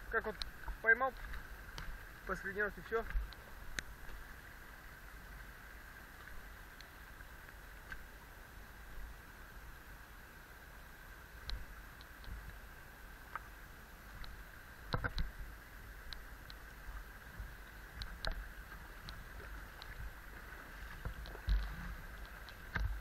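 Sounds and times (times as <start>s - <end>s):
river flowing: 0.0s - 23.0s
small clicks and ticks: 0.1s - 8.1s, 11.4s - 12.6s, 13.2s - 23.0s.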